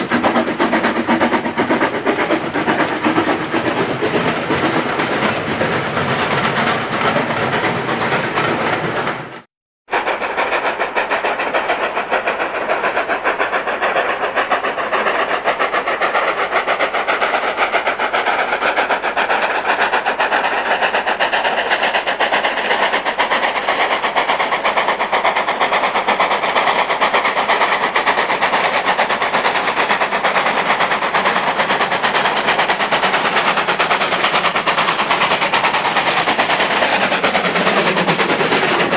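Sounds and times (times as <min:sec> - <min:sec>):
steam engines chuffing: 0:00.0 - 0:38.9
steam locomotive exhaust: 0:00.0 - 0:38.9.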